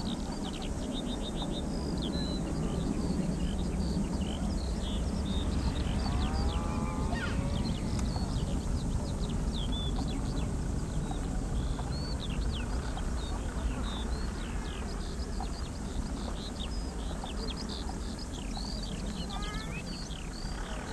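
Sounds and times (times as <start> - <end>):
birds chirping: 0.0 - 20.9
jet engines rumbling: 0.0 - 20.9.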